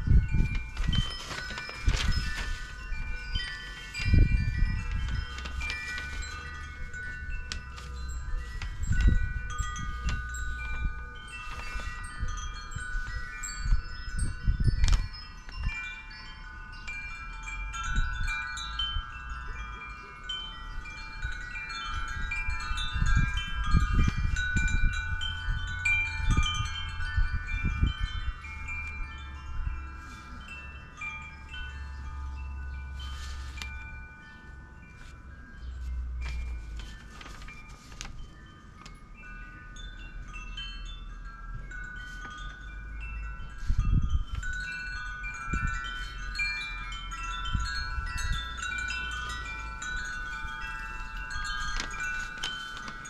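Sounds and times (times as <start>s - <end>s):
wind chimes ringing: 0.0s - 53.0s
wind rumbling on microphone: 0.0s - 53.0s.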